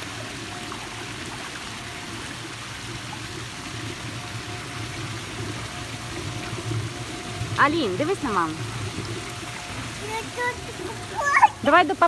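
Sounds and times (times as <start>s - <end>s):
low steady hum: 0.0s - 12.0s
pool water running: 0.0s - 12.0s.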